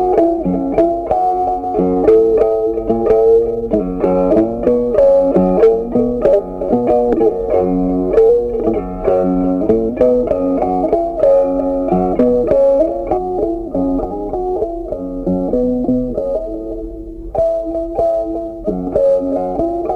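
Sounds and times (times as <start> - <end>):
plucked string melody: 0.0 - 19.9.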